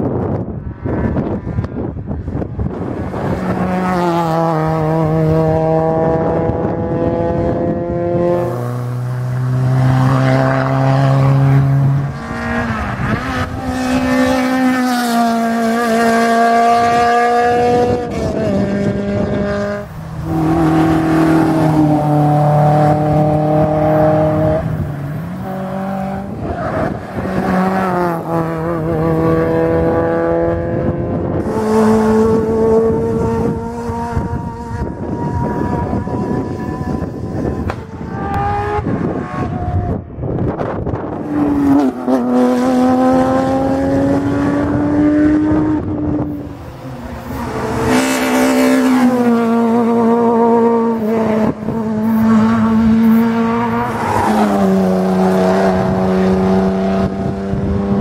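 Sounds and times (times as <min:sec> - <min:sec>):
rally car engines passing: 0:00.0 - 0:58.0.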